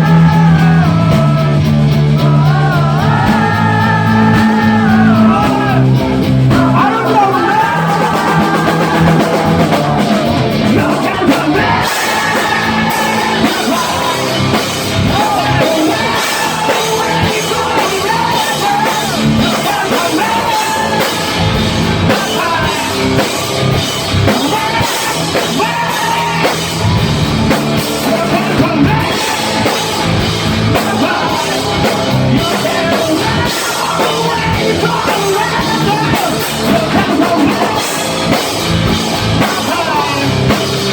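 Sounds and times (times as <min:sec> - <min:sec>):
man singing lead vocals: 0:00.0 - 0:40.9
rock band playing: 0:00.0 - 0:40.9.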